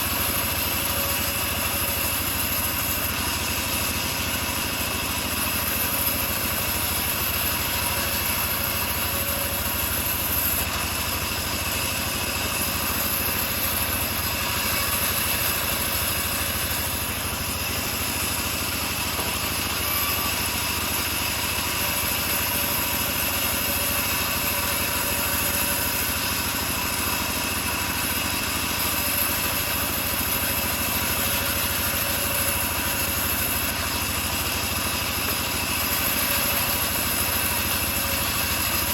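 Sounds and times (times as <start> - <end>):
band sawmill sawing wood: 0.0 - 38.9.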